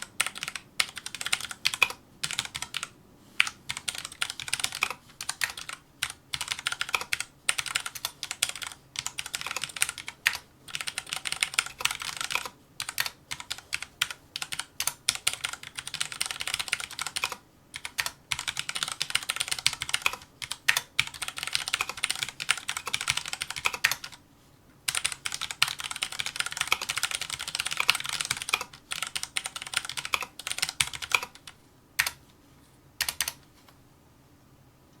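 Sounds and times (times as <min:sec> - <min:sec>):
mechanical keyboard typing: 0:00.0 - 0:24.2, 0:24.9 - 0:32.2, 0:33.0 - 0:33.4.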